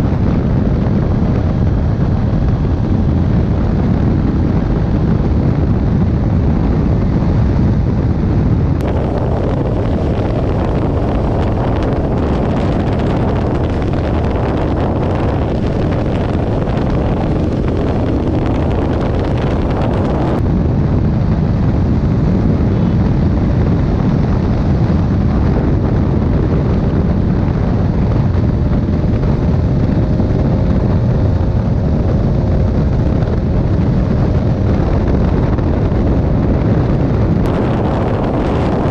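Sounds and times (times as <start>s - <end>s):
motorcycle engine running fast: 0.0s - 38.9s
wind rush on microphone: 0.0s - 38.9s.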